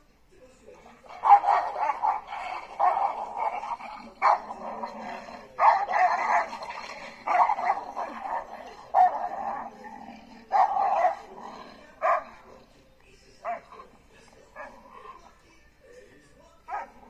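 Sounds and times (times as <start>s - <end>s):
dogs growling: 0.6s - 15.7s, 16.7s - 17.0s
dogs barking: 0.8s - 15.4s, 16.7s - 17.0s.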